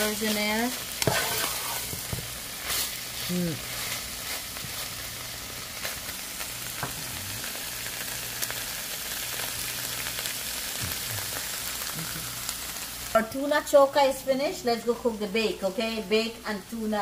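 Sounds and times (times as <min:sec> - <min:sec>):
fish sizzling in a frying pan: 0:00.0 - 0:16.3.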